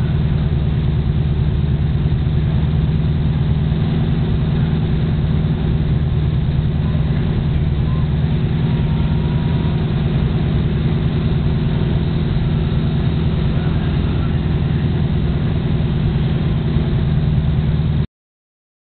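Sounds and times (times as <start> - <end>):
race car engine idling: 0.0 - 18.1.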